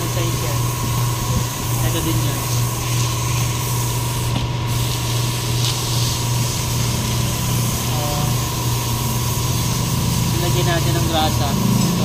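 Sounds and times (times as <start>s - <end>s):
low mechanical motor hum: 0.0s - 12.0s.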